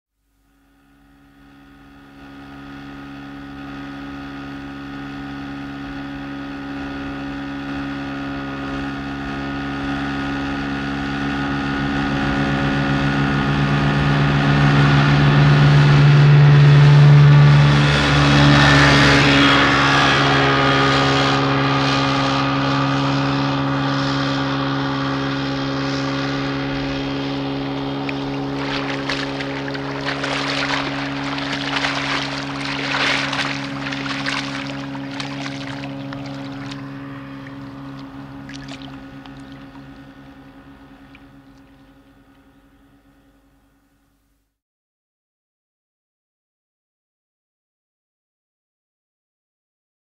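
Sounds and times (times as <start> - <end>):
motorboat engine drone: 0.2 - 44.4.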